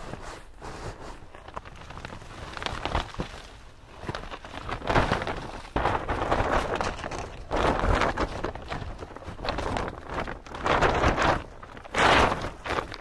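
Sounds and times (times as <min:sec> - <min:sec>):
small crackles: 0:00.0 - 0:13.0.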